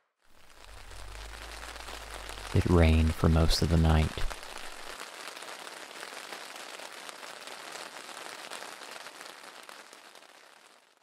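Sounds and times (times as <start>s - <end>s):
rain falling steadily: 0.2s - 11.0s.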